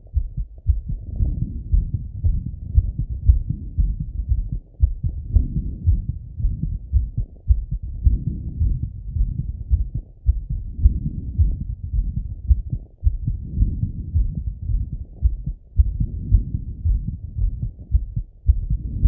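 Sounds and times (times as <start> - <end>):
heartbeat thumps: 0.0 - 19.0.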